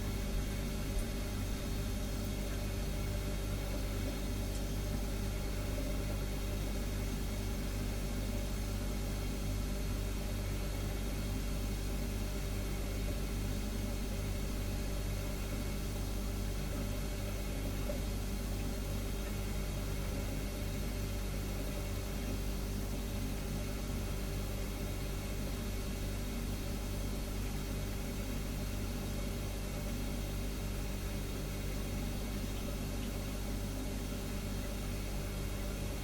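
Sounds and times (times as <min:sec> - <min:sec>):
refrigerator humming: 0:00.0 - 0:36.0.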